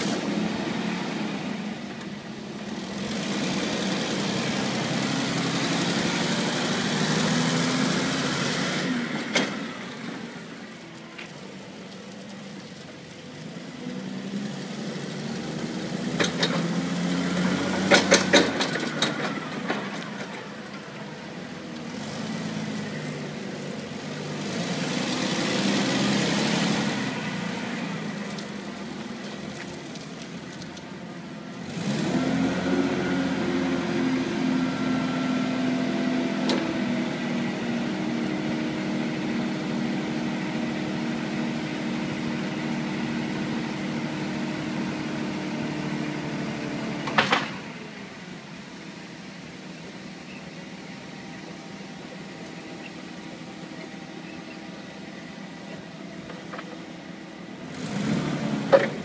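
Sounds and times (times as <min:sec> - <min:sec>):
forklift engine running: 0:00.0 - 0:59.0.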